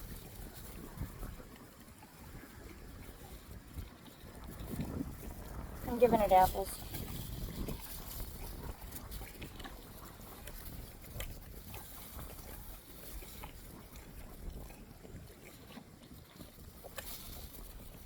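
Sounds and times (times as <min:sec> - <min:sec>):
horse chewing apple: 0:00.0 - 0:18.0.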